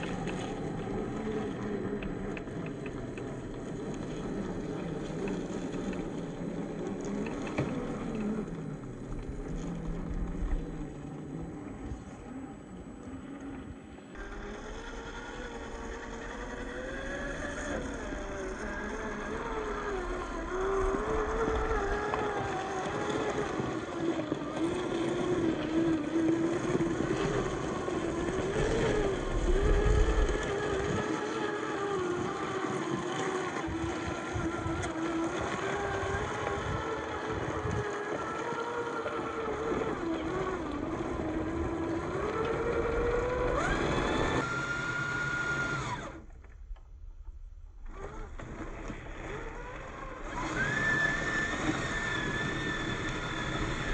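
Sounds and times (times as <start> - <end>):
electric motor whining: 0.0 - 46.6, 47.8 - 53.9.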